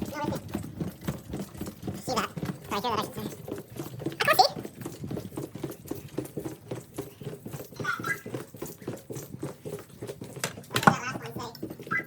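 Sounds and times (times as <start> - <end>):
quick footsteps on hard floor: 0.0 - 12.0.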